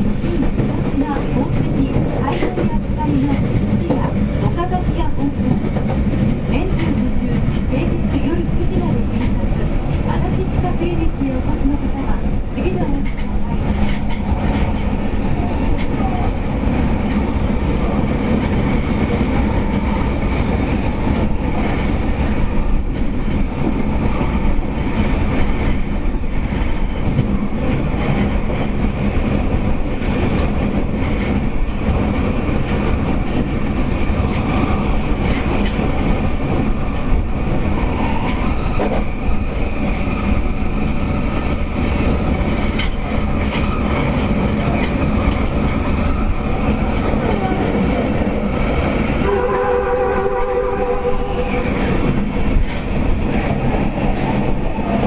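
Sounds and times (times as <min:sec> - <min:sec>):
subway wheel and rail noise: 0:00.0 - 0:55.0.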